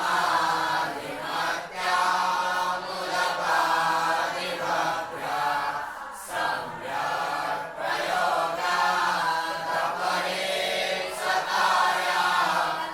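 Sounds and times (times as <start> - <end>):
group chanting in unison: 0.0 - 12.9.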